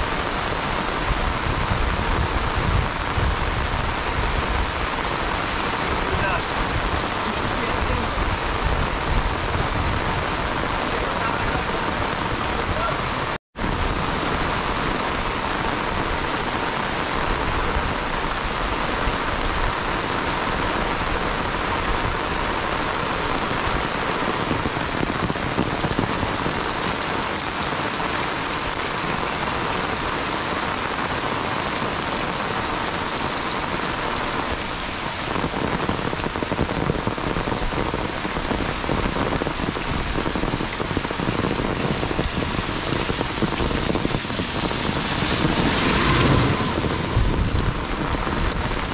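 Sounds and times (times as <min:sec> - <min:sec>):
heavy rain on wet road: 0:00.0 - 0:48.9.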